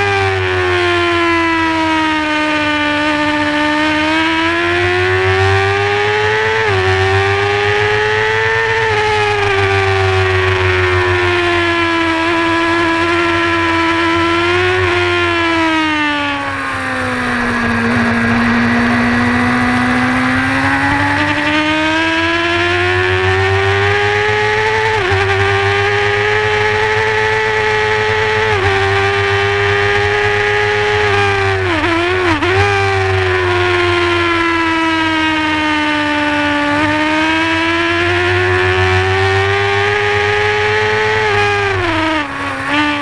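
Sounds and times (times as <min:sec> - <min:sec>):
motorcycle engine at high revs: 0:00.0 - 0:43.0.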